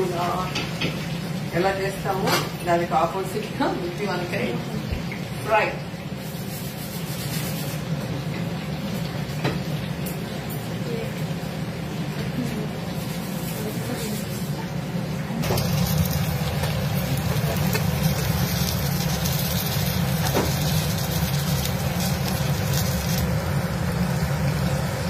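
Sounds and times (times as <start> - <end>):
food sizzling in pan: 0.0 - 25.0.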